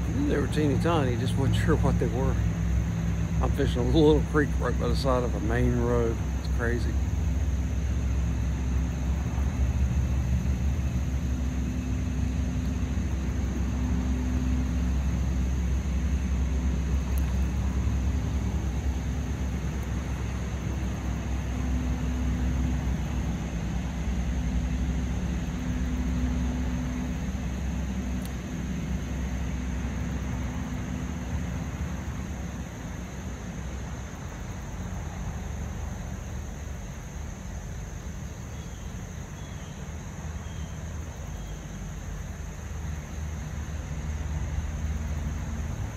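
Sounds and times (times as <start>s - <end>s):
road traffic rumble: 0.0s - 45.9s.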